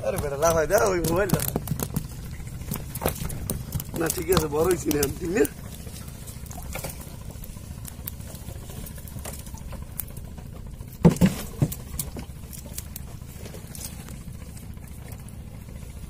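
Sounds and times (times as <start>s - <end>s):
light tapping: 0.0s - 14.2s
fish flapping on wooden deck: 0.0s - 15.2s
boat engine rumbling: 0.0s - 16.0s.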